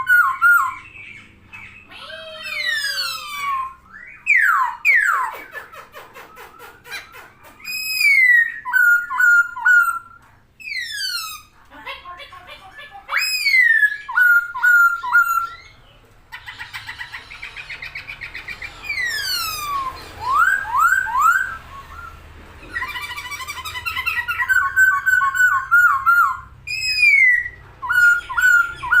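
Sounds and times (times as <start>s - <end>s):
bird singing whistles and trills: 0.0s - 5.5s, 7.5s - 11.5s, 13.1s - 15.8s, 16.5s - 29.0s.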